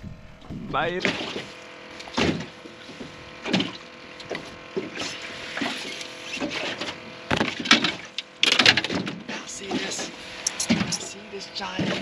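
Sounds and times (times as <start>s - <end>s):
fish and net bumping in metal boat: 1.0s - 11.0s.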